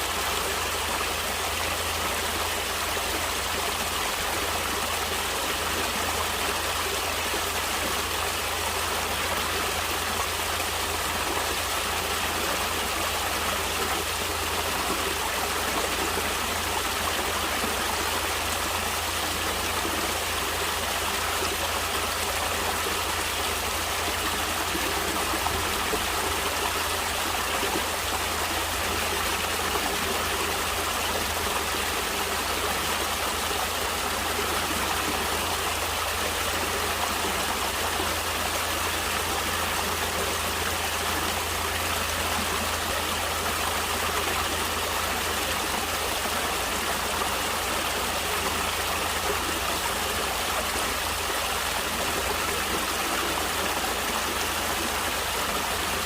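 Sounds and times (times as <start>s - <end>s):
stream of water flowing: 0.0s - 56.0s.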